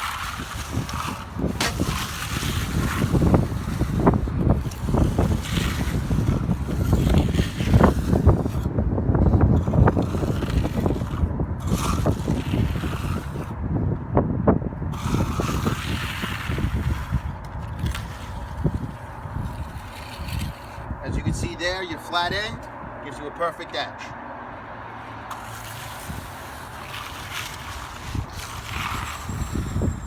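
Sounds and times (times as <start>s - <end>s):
trowel scraping wet concrete: 0.0s - 13.6s, 14.9s - 23.9s, 25.1s - 30.0s
wind rumbling on microphone: 0.0s - 23.1s, 24.7s - 30.0s.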